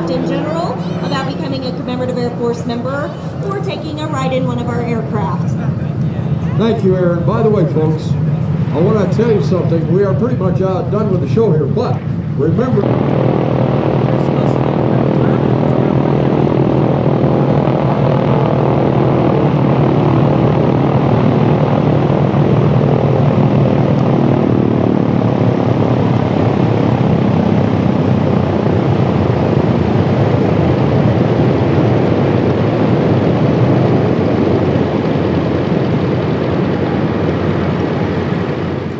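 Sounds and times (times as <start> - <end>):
propeller aircraft engine drone: 0.0 - 38.9.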